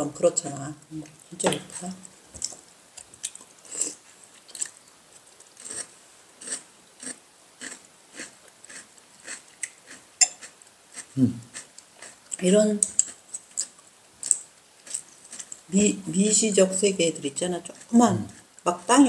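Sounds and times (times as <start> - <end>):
person chewing food: 1.0 - 15.7, 17.6 - 18.9.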